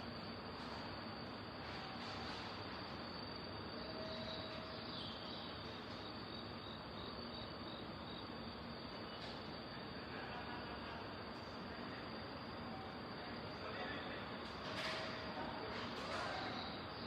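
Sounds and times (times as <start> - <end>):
crickets chirping: 0.0 - 17.0
steady background hiss: 0.0 - 17.0.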